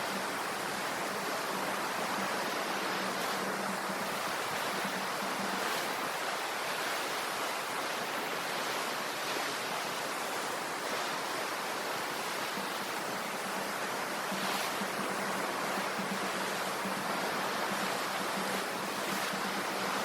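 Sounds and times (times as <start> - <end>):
sea surf washing onto shore: 0.0 - 20.0.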